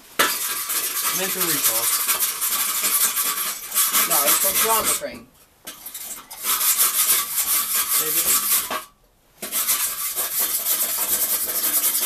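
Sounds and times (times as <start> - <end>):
hand tool scraping rusty metal: 0.2 - 12.0.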